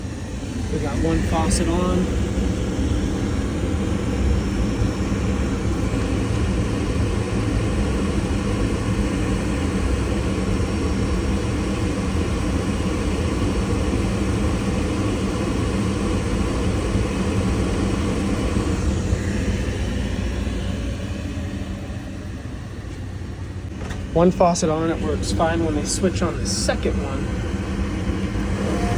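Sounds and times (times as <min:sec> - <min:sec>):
water heater burner drone: 0:00.0 - 0:28.9.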